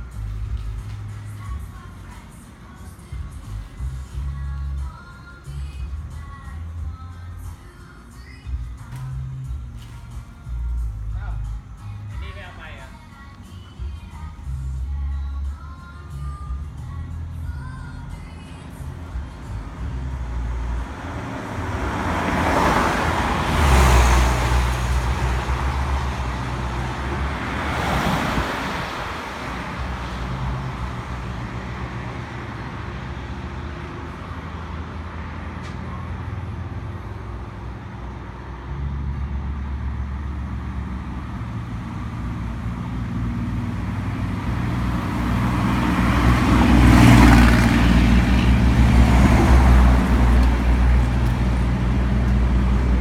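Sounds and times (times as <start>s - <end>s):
vehicle engine humming: 0.0s - 53.0s
vehicles passing: 0.0s - 53.0s.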